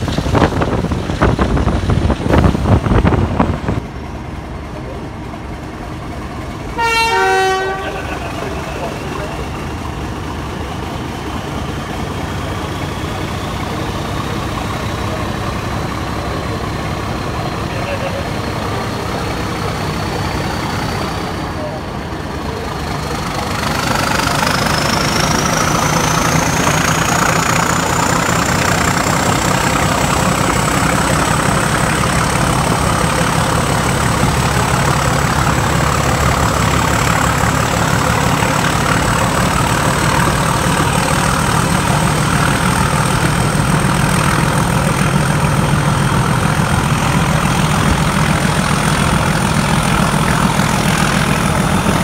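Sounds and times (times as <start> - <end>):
diesel train running: 0.0 - 52.0.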